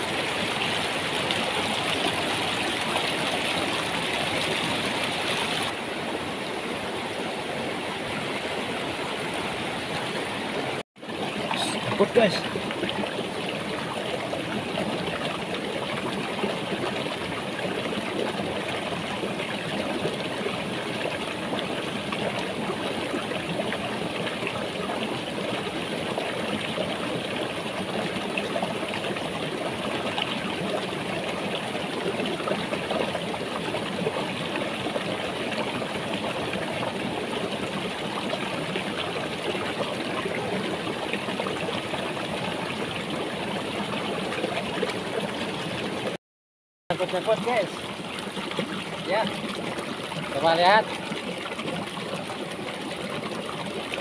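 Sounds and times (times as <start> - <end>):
water flowing over stones: 0.0 - 46.2, 46.9 - 54.0.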